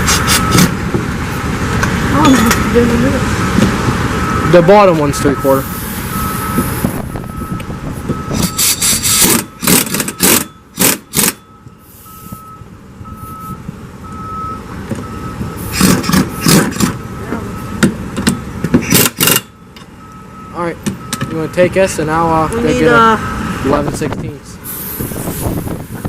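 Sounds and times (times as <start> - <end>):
reversing alarm beeping: 0.0 - 0.8, 2.1 - 24.0.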